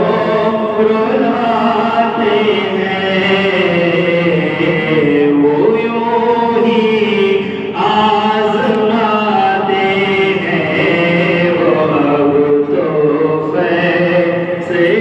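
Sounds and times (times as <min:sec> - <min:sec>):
person chanting devotional poem: 0:00.0 - 0:15.0.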